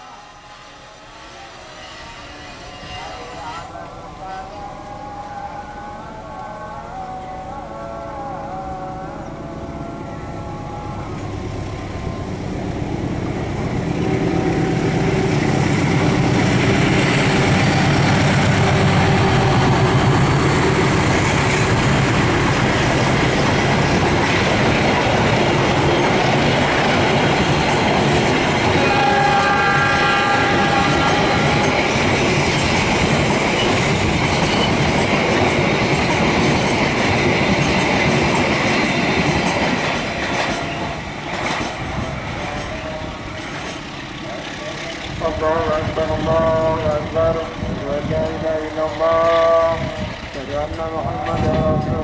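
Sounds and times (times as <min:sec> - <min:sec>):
train horn: 0:00.0 - 0:34.6, 0:40.2 - 0:50.4
train wheels rumbling on rails: 0:08.4 - 0:52.0.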